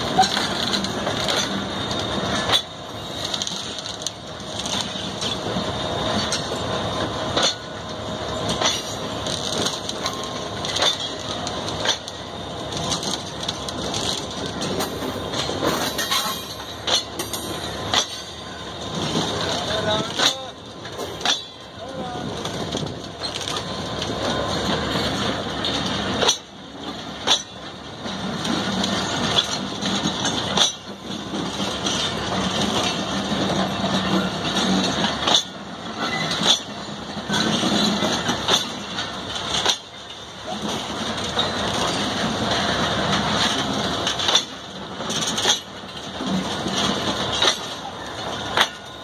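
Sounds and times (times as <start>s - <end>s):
train wheels rumbling and rattling: 0.0s - 49.0s
wheels clacking over rail joints: 0.0s - 49.0s.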